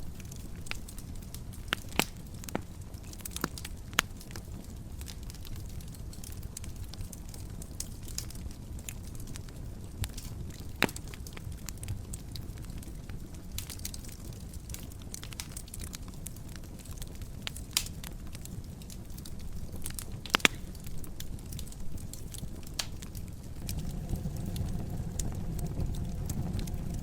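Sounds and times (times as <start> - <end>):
low rumble of flame: 0.0 - 27.0
wood fire crackling: 0.0 - 27.0
sharp pops from fire: 0.1 - 27.0.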